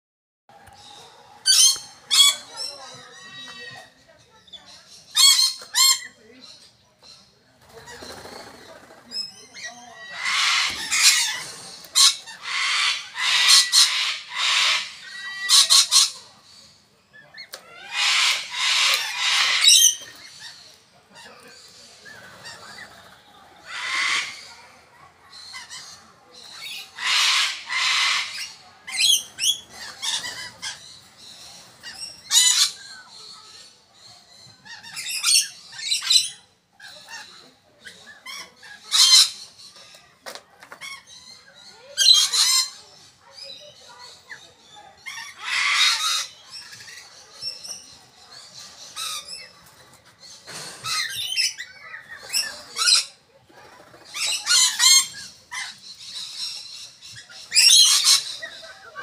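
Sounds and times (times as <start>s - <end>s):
cockatoo harsh raspy calls: 0.8s - 3.9s, 4.5s - 6.2s, 7.6s - 40.1s, 40.8s - 59.0s.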